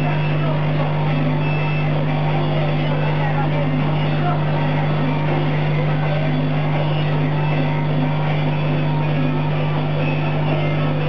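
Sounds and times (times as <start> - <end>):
laser cutter low hum: 0.0 - 11.0.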